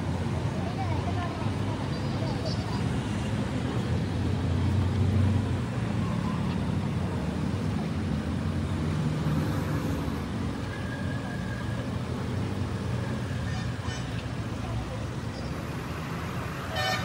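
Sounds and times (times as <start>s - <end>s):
motor vehicle rumble: 0.0s - 17.0s.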